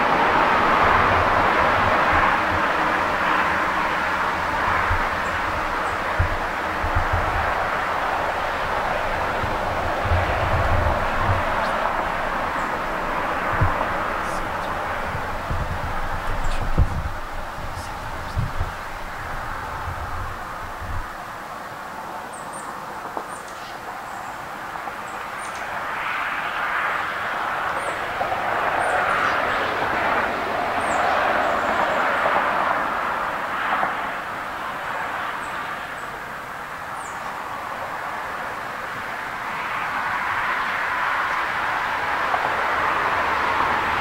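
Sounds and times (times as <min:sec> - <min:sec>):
highway traffic: 0:00.0 - 0:44.0.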